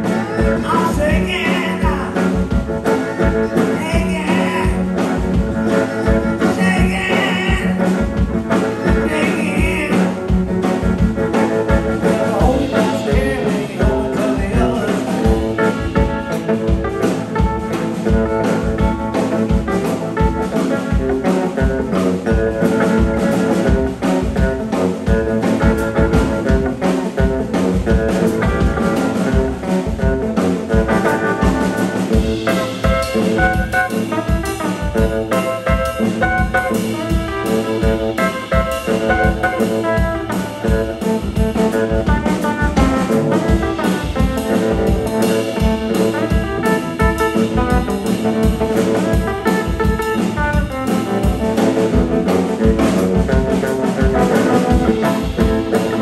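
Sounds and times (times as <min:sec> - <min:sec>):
live band playing blues: 0:00.0 - 0:56.0.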